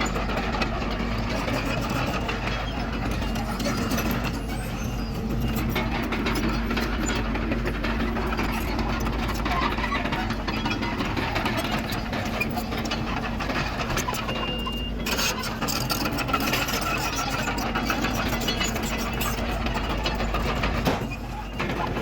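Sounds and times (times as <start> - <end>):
bulldozer diesel engine running: 0.0 - 22.0
tracks clanking and rattling: 0.0 - 22.0.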